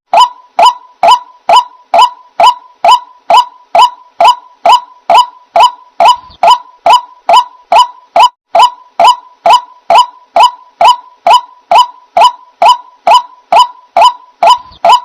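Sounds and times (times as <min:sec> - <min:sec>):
bird honking call: 0:00.2 - 0:15.0
faint steady tone: 0:00.2 - 0:15.0.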